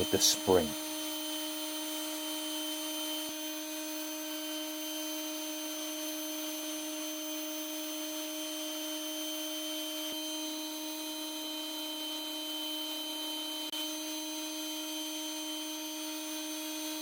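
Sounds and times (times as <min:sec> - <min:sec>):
electric drill spinning wire brush: 0:00.0 - 0:17.0.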